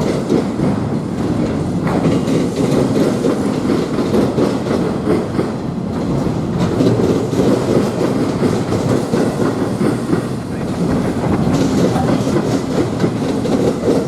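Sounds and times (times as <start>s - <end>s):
train rumbling on rails: 0.0s - 14.0s
wheel clatter over track: 0.0s - 14.0s.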